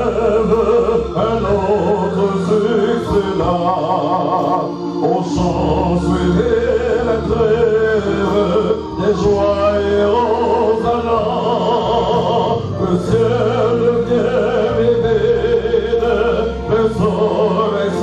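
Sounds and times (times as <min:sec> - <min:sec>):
instrumental backing: 0:00.0 - 0:18.0
man singing with vibrato: 0:00.0 - 0:18.0.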